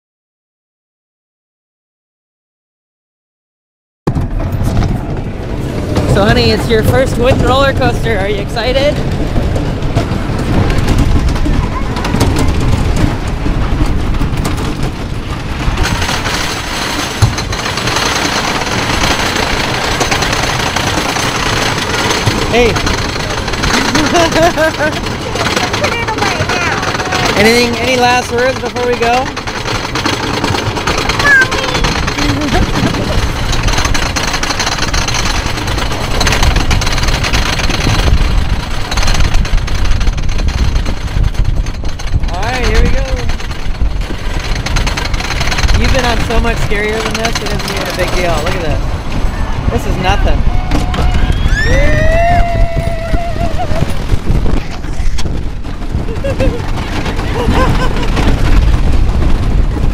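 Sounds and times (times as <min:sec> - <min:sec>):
roller coaster rattling on track: 0:04.1 - 0:59.9
wind noise on microphone: 0:04.1 - 0:59.9.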